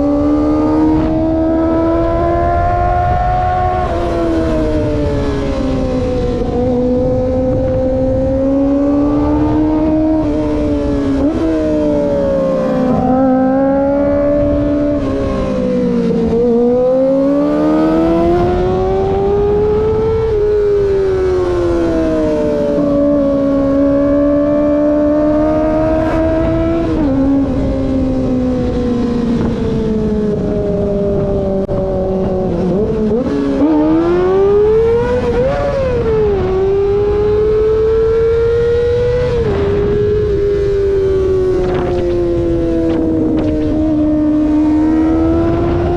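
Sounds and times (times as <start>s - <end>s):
low wind rumble: 0.0s - 45.9s
motorcycle engine revving: 0.0s - 45.9s.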